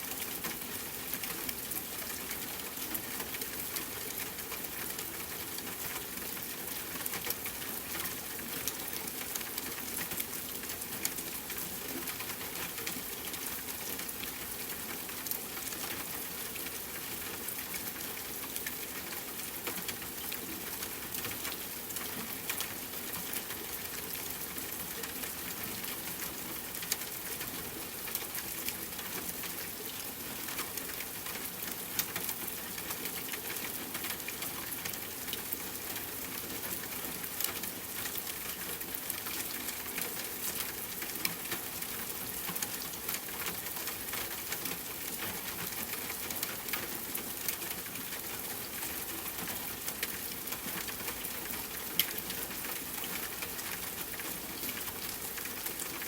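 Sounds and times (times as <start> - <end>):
rain pattering on a tent: 0.0 - 56.0.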